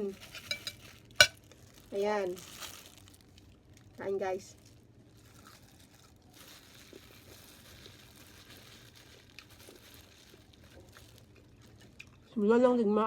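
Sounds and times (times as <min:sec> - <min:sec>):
soft eating clicks and crinkles: 0:00.0 - 0:12.4.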